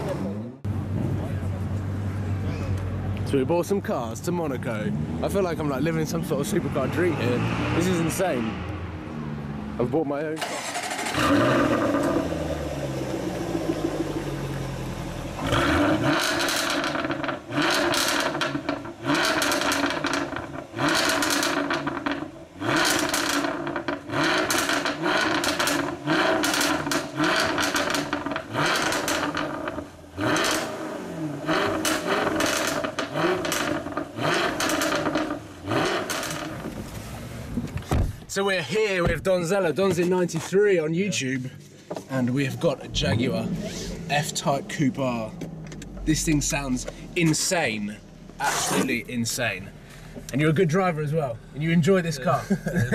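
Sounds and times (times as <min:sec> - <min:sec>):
car engine revving: 0:04.7 - 0:37.6, 0:42.1 - 0:51.9.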